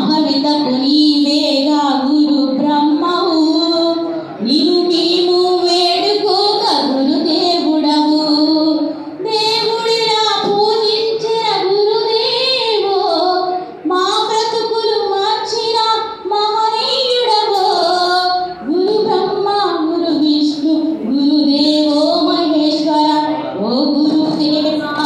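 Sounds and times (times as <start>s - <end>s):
woman singing into a microphone: 0.0s - 25.0s.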